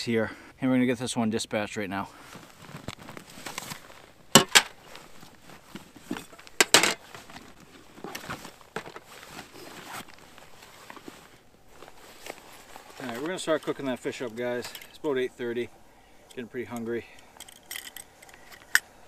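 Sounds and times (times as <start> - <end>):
rustling and handling gear: 2.1 - 19.0.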